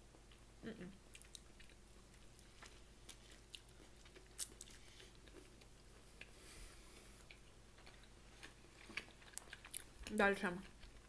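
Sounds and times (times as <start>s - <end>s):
chewing food: 0.1s - 11.0s.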